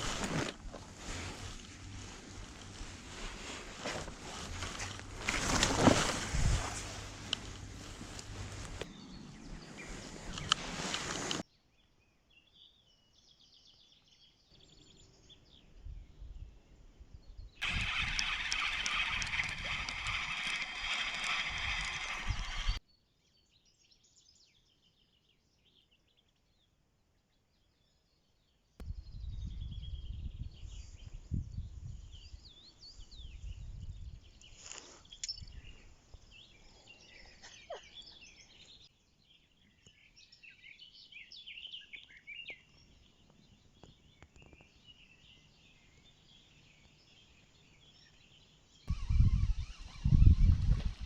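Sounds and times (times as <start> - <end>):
songbirds singing and chirping: 0.2 - 51.0.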